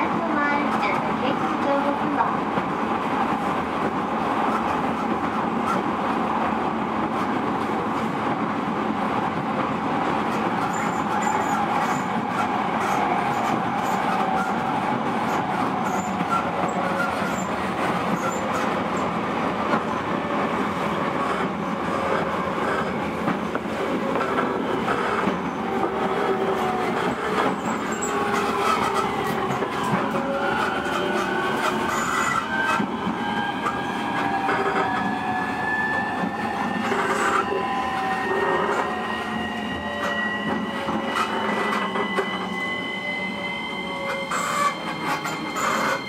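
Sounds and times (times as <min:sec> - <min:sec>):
electric train wheels rumbling on rails: 0:00.0 - 0:46.0.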